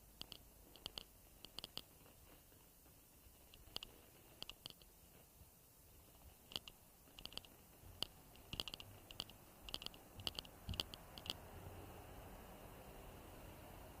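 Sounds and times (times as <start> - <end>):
light clicks and taps: 0.1 - 11.4.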